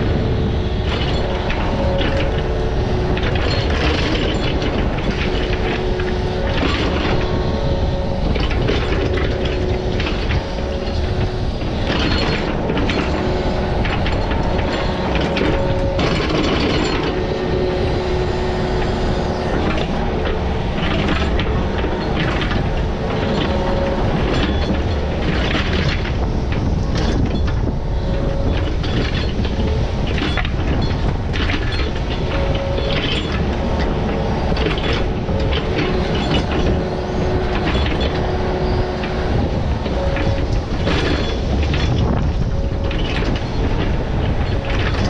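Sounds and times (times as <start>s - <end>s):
diesel heavy equipment running: 0.0s - 45.0s
hydraulic whine: 0.0s - 45.0s
metal clanks and rattles: 0.0s - 45.0s.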